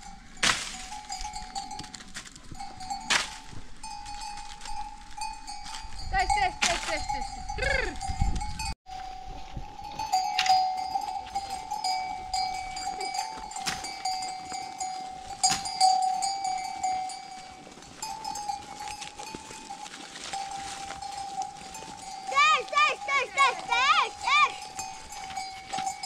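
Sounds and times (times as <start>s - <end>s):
livestock bell clanking: 0.0s - 26.0s.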